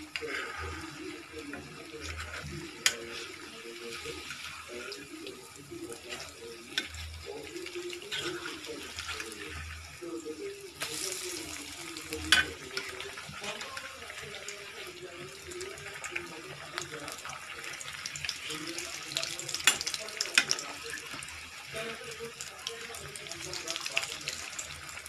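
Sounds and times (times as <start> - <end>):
batter sizzling in hot oil: 0.0 - 25.0.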